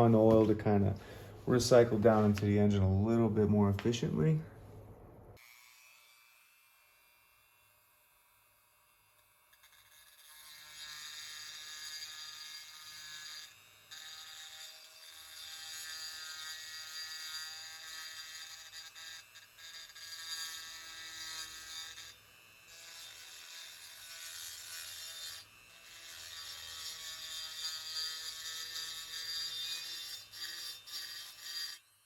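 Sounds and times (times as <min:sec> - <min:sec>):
rotary tool whining while grinding: 0:05.4 - 0:32.0.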